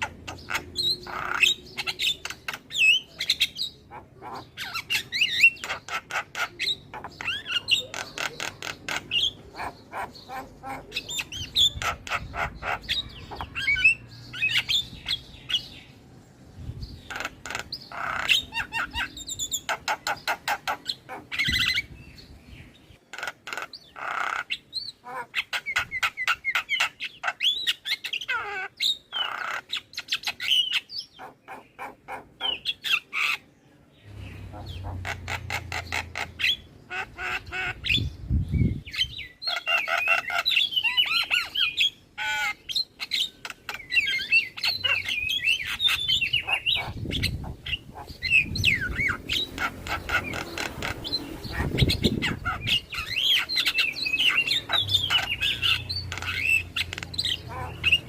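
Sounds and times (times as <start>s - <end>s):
bird chattering and squawking: 0.0s - 16.0s, 16.7s - 58.0s.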